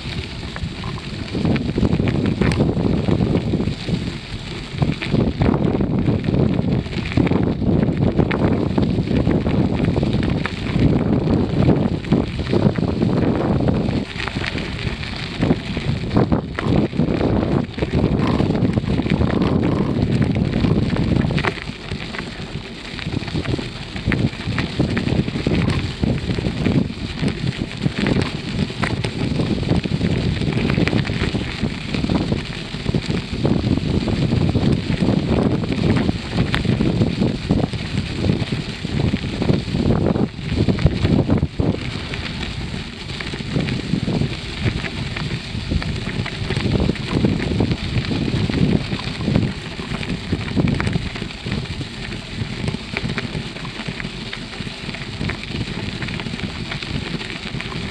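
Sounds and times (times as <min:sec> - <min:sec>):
bicycle clicks and knocks: 0:00.0 - 0:57.9
wind buffeting microphone: 0:00.0 - 0:57.9.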